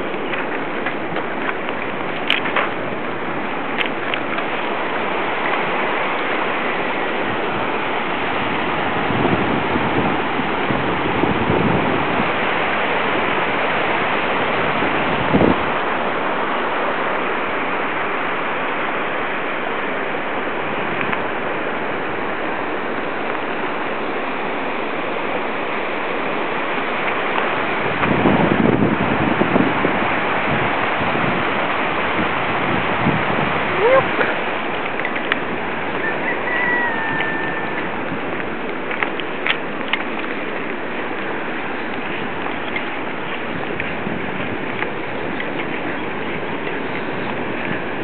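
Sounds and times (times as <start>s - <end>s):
river water rushing over rocks: 0.0s - 48.0s.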